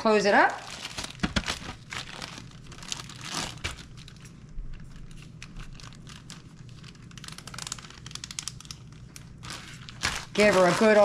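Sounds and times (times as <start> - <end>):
plastic bag crinkling: 0.6 - 11.0.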